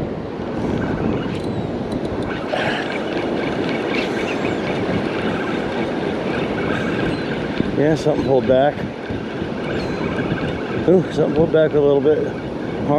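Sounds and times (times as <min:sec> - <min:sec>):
ocean surf breaking on beach: 0:00.0 - 0:12.9.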